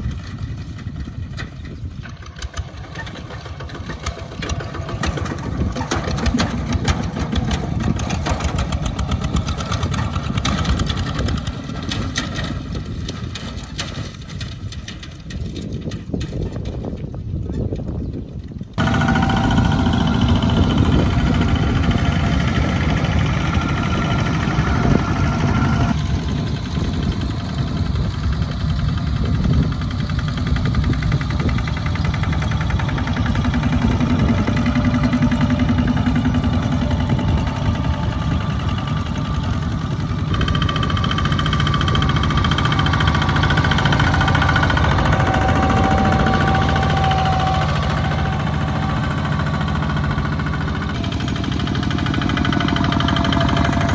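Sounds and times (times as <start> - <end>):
diesel tractor engine running: 0.0 - 53.9.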